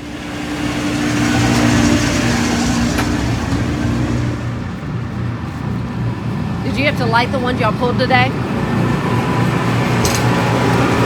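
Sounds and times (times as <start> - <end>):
car engine droning: 0.0 - 11.0
road noise rush: 0.0 - 11.0.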